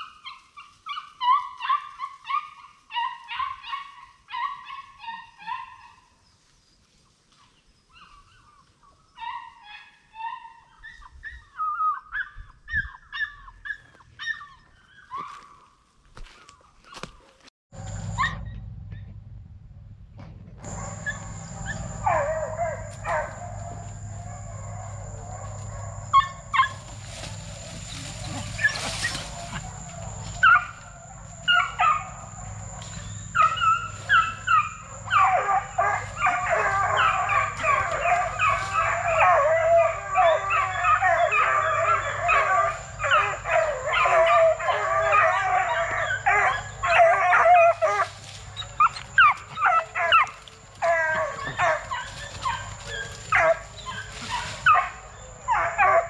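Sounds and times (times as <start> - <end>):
hounds barking and howling: 0.0 - 6.2, 7.9 - 15.7, 20.6 - 56.0.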